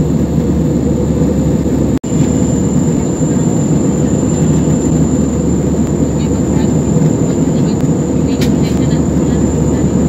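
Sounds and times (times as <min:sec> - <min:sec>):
faint high engine whine: 0:00.0 - 0:10.0
jet airliner cabin noise: 0:00.0 - 0:10.0.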